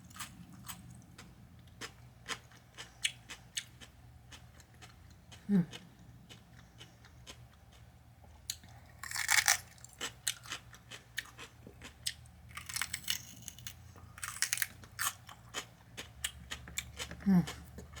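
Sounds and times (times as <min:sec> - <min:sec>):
crunching and chewing sandwich: 0:00.0 - 0:18.0.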